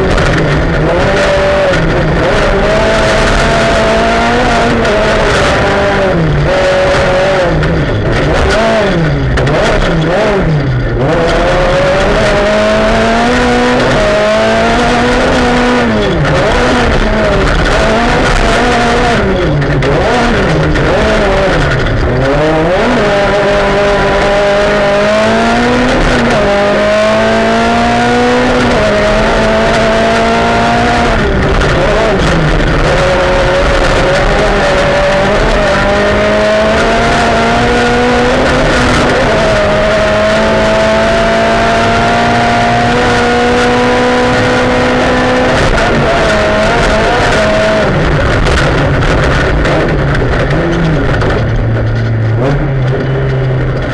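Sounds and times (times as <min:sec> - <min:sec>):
car engine at speed: 0:00.0 - 0:53.9
tyres on gravel road: 0:00.0 - 0:53.9.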